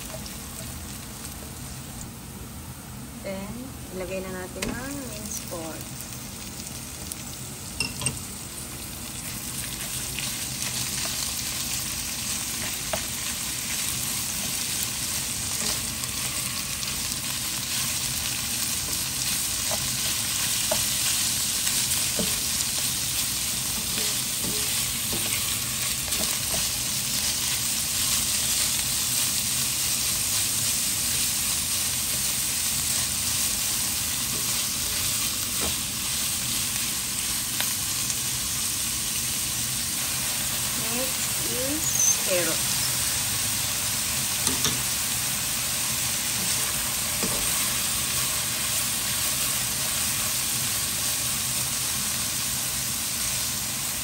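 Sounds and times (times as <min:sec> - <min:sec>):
meat sizzling in a wok: 0:00.0 - 0:02.2, 0:05.0 - 0:54.0.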